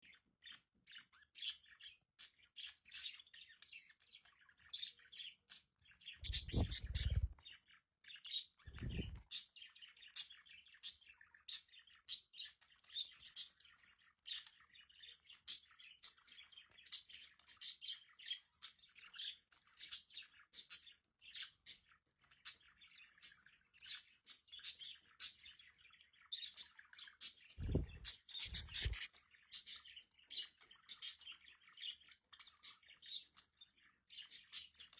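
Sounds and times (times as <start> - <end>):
budgerigars chirping and warbling: 0.0 - 34.9.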